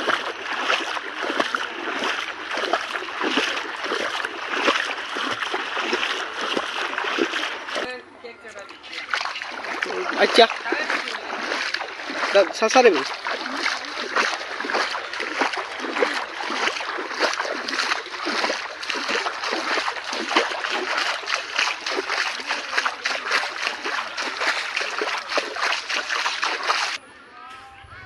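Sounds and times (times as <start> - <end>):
floodwater splashing: 0.0 - 27.0.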